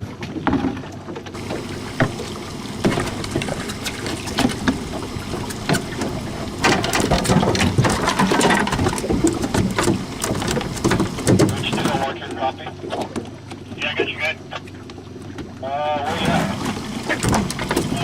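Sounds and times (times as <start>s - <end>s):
water splashing around boat: 0.0s - 18.0s.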